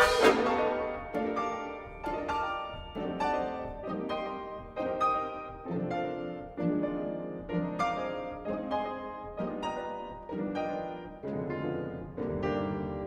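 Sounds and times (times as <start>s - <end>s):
piano playing repeated chords: 0.0s - 13.0s.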